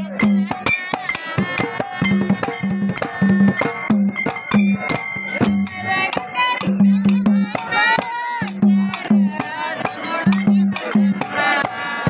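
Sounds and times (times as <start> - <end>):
barrel drums beating folk rhythm: 0.0 - 12.0.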